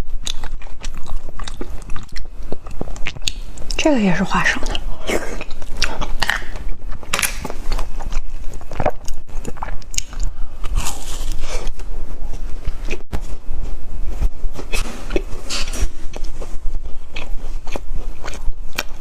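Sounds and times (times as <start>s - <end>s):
crunchy snack chewing: 0.0s - 3.8s, 4.6s - 13.4s, 14.6s - 19.0s.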